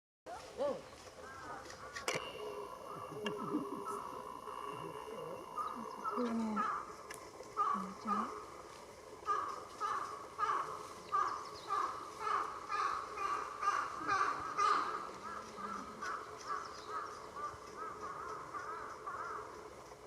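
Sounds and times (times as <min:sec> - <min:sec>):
woodpecker nestlings begging calls: 0:01.2 - 0:08.6, 0:09.2 - 0:19.7.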